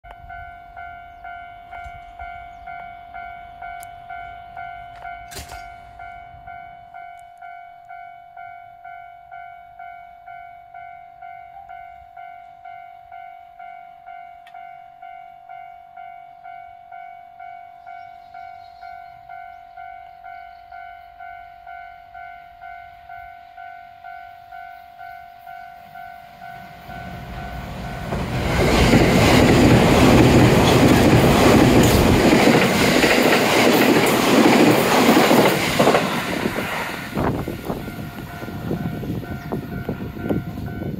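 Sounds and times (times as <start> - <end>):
electric train passing at speed: 0.1 - 40.9
level-crossing alarm ringing: 0.2 - 40.9.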